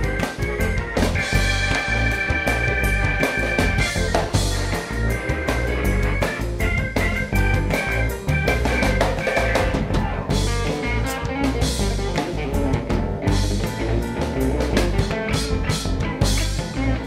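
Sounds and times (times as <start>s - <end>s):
drum kit beat: 0.0s - 17.0s
electric guitar: 0.0s - 17.0s
electric upright bass: 0.0s - 17.0s
stage piano: 0.0s - 17.0s.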